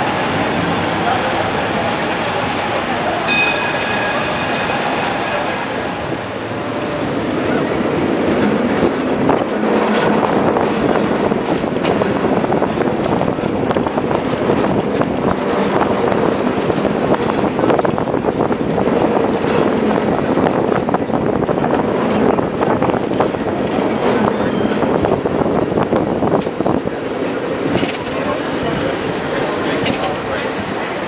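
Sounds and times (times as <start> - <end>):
cable car wheels rattling on rails: 0.0 - 31.0.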